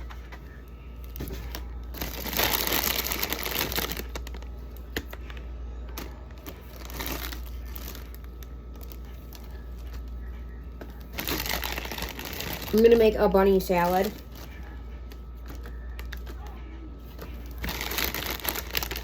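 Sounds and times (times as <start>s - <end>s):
egg cartons crinkling: 1.0s - 5.4s, 6.0s - 19.0s.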